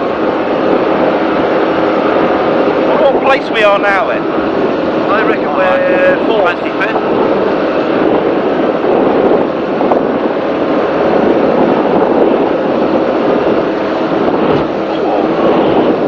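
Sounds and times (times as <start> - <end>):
powerboat engines running loud: 0.0 - 16.0
rush of wind and water: 0.0 - 16.0.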